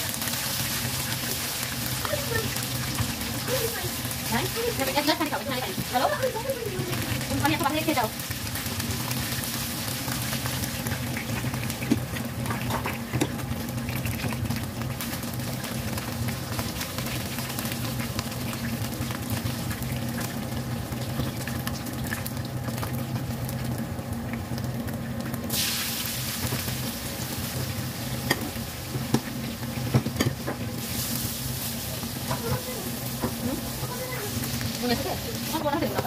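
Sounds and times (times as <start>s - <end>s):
oil sizzling in a wok: 0.0s - 36.0s.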